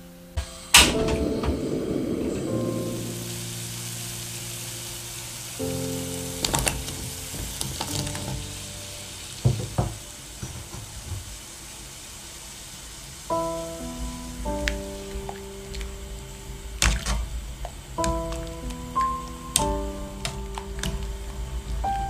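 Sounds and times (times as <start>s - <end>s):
soft background music: 0.0s - 10.3s, 13.3s - 22.0s
water simmering: 0.8s - 22.0s.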